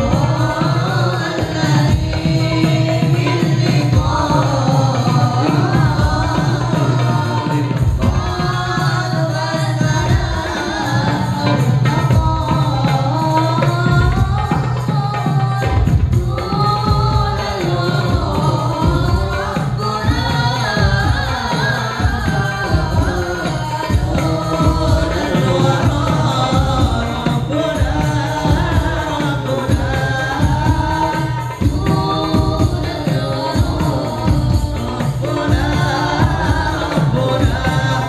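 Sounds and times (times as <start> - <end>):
person singing devotional song: 0.0 - 38.0.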